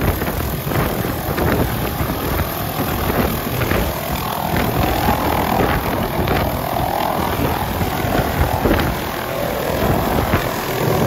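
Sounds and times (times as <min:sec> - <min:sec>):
faint turbine engine whine: 0:00.0 - 0:11.0
helicopter rotor chopping: 0:00.0 - 0:11.0.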